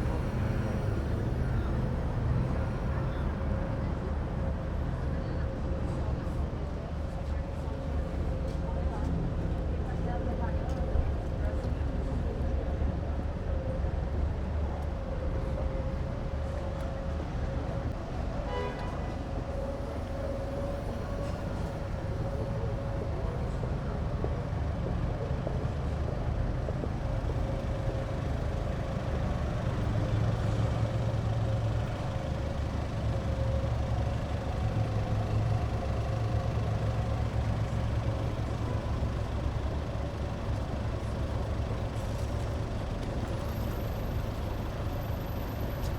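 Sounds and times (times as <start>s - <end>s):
traffic engines rumbling: 0.0s - 45.9s.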